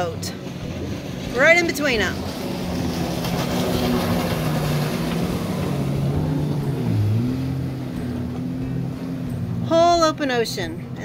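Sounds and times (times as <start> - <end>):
jet ski engines passing: 0.0 - 11.0.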